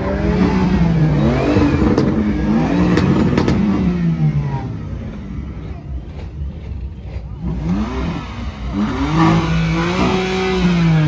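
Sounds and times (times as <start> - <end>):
car engine revving: 0.0 - 11.0
sharp exhaust cracks: 0.0 - 11.0.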